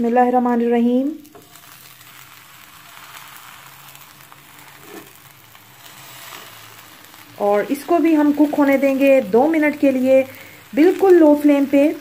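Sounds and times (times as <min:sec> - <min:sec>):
sandwich sizzling in a pan: 0:01.1 - 0:12.0.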